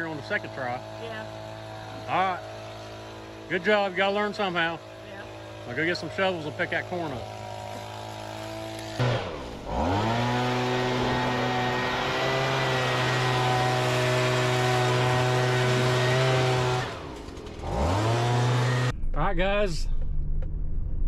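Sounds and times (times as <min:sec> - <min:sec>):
combine harvester mechanical drone: 0:00.0 - 0:21.0.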